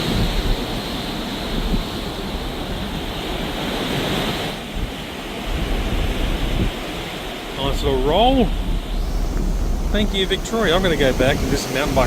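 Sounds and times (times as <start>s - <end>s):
sea rushing: 0.0s - 12.0s
wind buffeting microphone: 0.0s - 12.0s.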